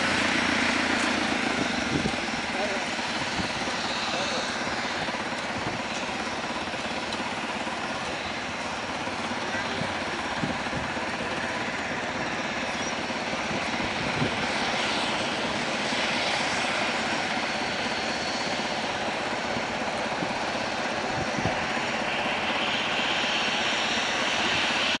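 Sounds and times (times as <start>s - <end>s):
jet engines whining while taxiing: 0.0s - 25.0s.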